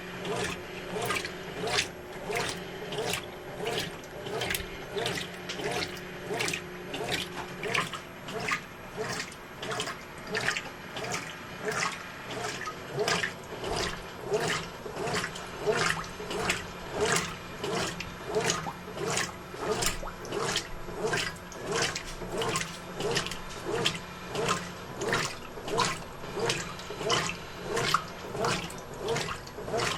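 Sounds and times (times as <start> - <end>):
washing machine motor hum: 0.0 - 29.9
washing machine water sloshing: 0.0 - 29.9.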